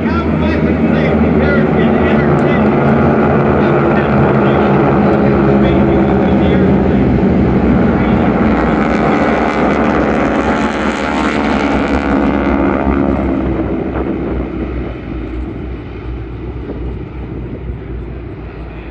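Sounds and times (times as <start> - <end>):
propeller plane engines: 0.0 - 18.9.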